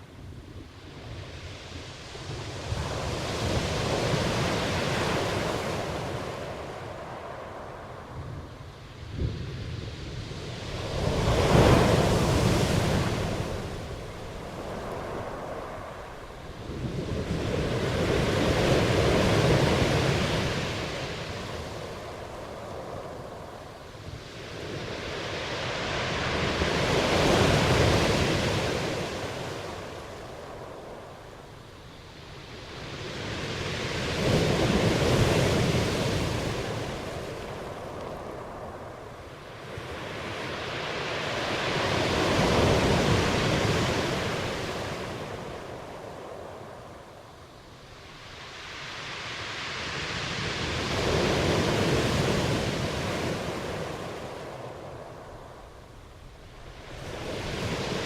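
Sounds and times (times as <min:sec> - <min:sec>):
ocean waves surging: 0:01.3 - 0:09.1, 0:09.8 - 0:58.0.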